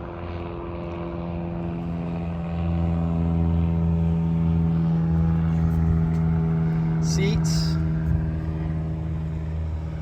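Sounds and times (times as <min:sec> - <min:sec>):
engine-like hum with held tones: 0:00.0 - 0:10.0.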